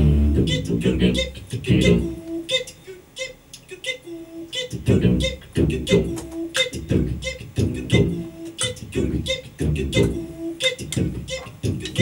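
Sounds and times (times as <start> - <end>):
person beatboxing: 0.0 - 3.0, 4.4 - 12.0.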